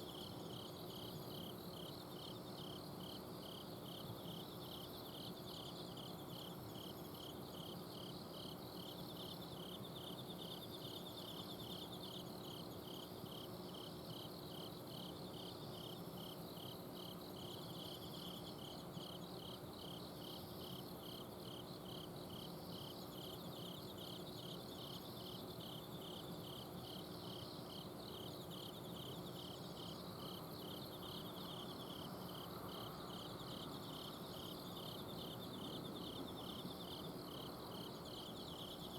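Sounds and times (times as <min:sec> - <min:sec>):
crickets chirping: 0:00.0 - 0:38.9
high insect trills: 0:00.1 - 0:38.9.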